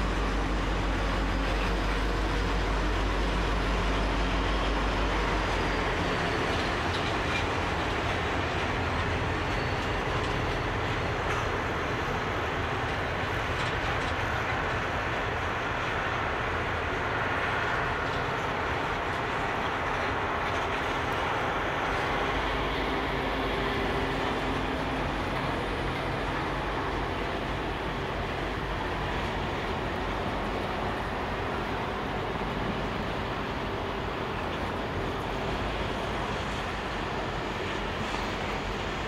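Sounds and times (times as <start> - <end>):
locomotive low drone: 0.0 - 39.0
train wheels rumbling on rails: 0.0 - 39.0
wheels clicking over rail joints: 0.0 - 39.0.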